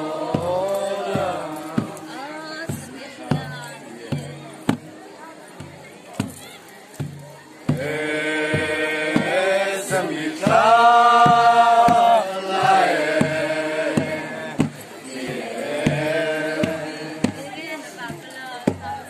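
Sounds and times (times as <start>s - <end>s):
group chanting folk song: 0.0s - 5.0s, 6.9s - 19.0s
drum struck steadily: 0.0s - 19.0s.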